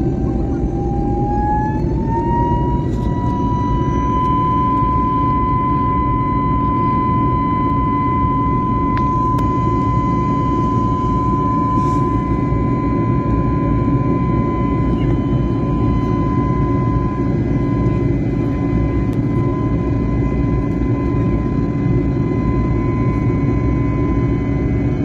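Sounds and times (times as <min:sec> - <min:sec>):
jet engine cabin roar: 0:00.0 - 0:25.0
steady high whine: 0:00.0 - 0:25.0.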